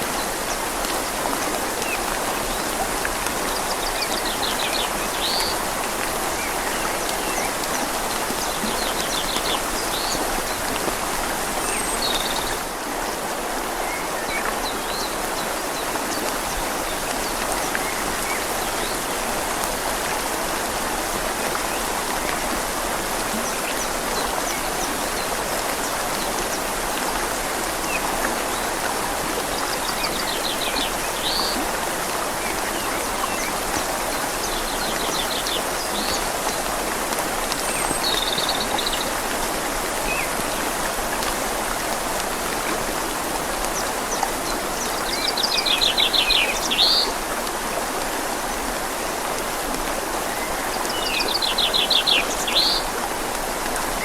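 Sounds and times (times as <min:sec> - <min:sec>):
rain falling on leaves: 0:00.0 - 0:54.0
river rushing: 0:00.0 - 0:54.0.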